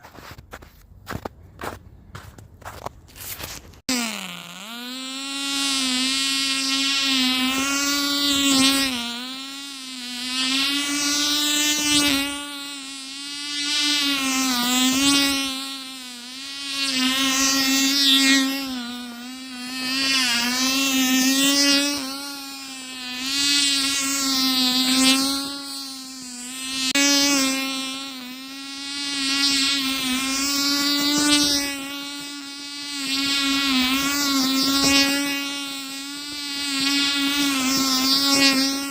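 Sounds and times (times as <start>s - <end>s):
small model engine buzzing: 2.6s - 38.9s.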